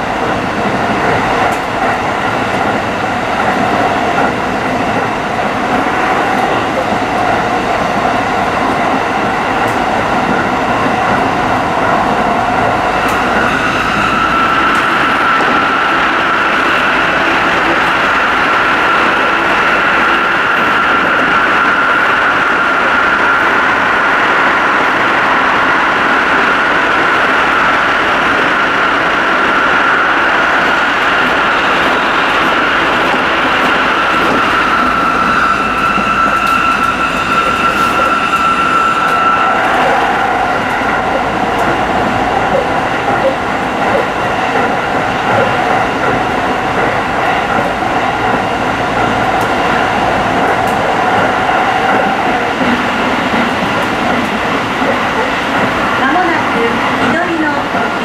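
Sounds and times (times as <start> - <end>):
electric train whine: 0.0 - 58.0
train wheels rumbling on rails: 0.0 - 58.0.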